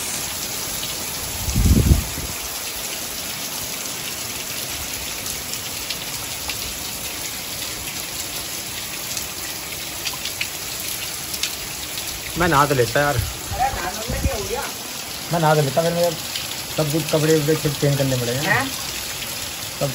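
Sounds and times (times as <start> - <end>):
heavy rain on concrete roof: 0.0 - 19.9.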